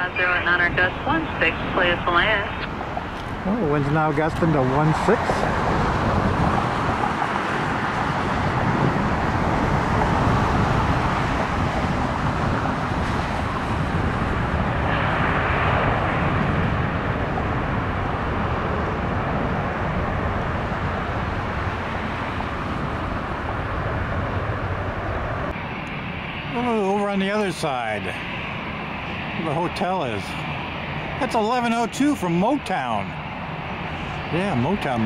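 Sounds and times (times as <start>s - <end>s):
distant jet engine rumble: 0.0s - 35.0s.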